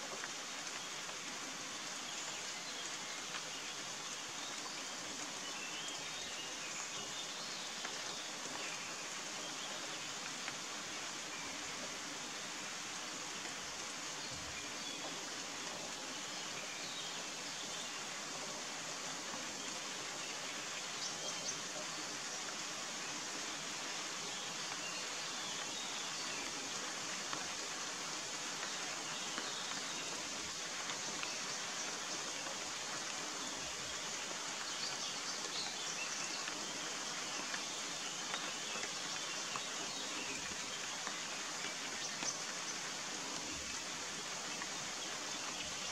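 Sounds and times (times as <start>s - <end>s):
steady rain hiss: 0.0s - 45.9s.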